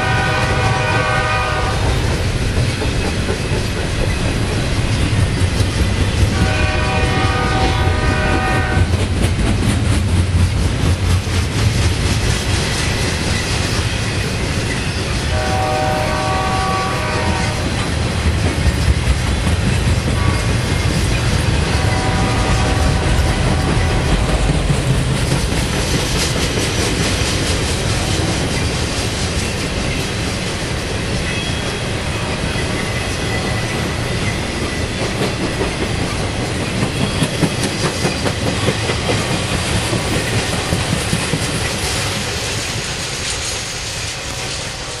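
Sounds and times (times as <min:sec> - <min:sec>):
wheels clacking over rail joints: 0:00.0 - 0:43.7
train cars rolling on rails: 0:00.0 - 0:45.0.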